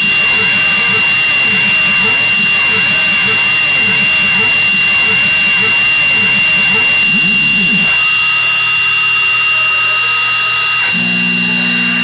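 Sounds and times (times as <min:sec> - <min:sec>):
axis motors humming: 0:00.0 - 0:12.0
high-pitched spindle whine: 0:00.0 - 0:12.0
loud low hum: 0:00.0 - 0:12.0.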